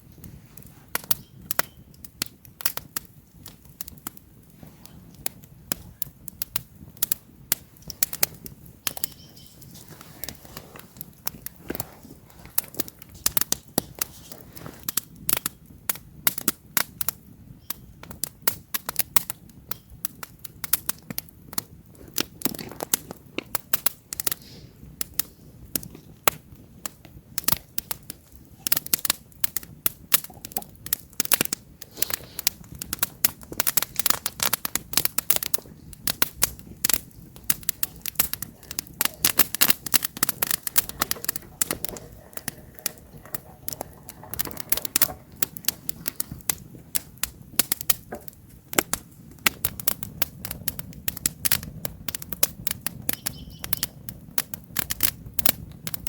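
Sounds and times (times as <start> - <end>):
wood campfire crackling: 0.0 - 56.0.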